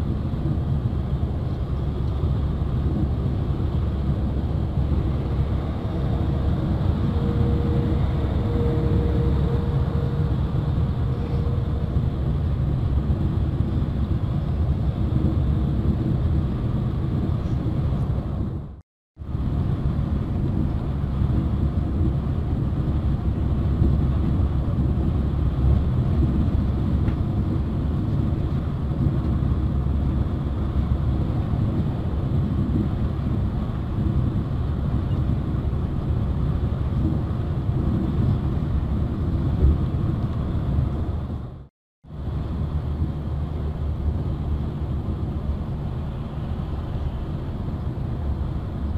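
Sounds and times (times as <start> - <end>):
engine and road noise inside vehicle: 0.0 - 48.9.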